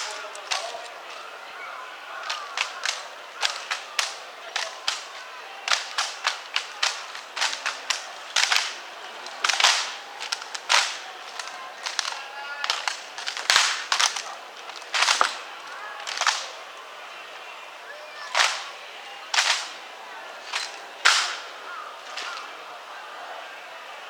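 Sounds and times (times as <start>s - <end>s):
rifles clacking: 0.0s - 16.8s, 18.2s - 22.6s.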